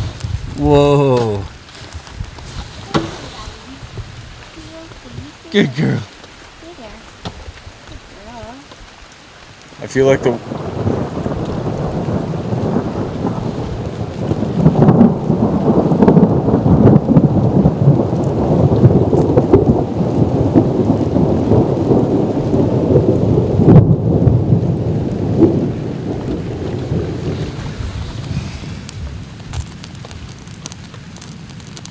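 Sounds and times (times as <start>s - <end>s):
rolling thunder: 0.0s - 9.0s, 9.6s - 31.9s
heavy rain: 0.0s - 31.9s.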